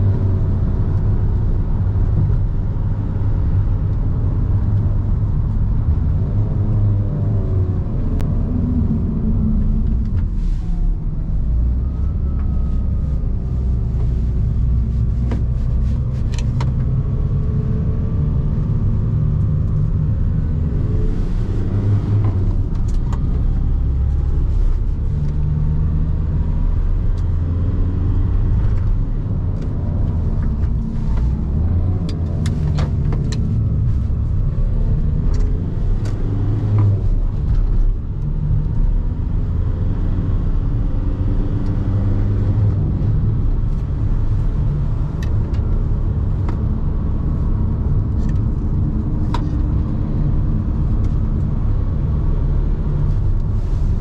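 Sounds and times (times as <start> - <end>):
diesel van engine: 0.0 - 54.0
road rumble: 0.0 - 54.0.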